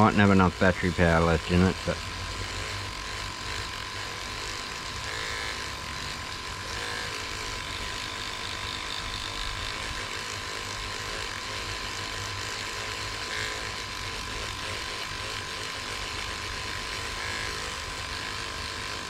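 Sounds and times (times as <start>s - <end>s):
electric motor buzzing and whining: 0.0s - 19.0s.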